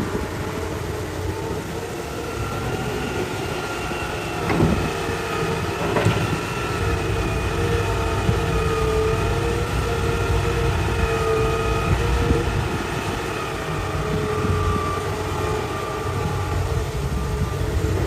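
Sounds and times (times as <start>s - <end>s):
excavator diesel rumble: 0.0s - 18.0s
hydraulic whine: 0.0s - 18.0s.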